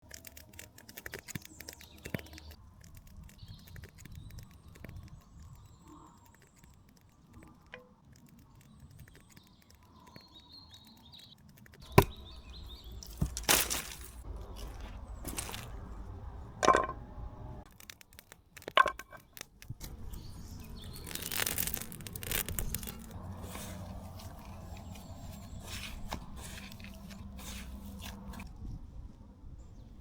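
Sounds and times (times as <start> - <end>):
crunches: 0.0 - 16.0, 17.7 - 28.5
small crackles: 0.0 - 16.0, 17.6 - 28.5
birds chirping: 0.8 - 16.6, 19.1 - 28.4.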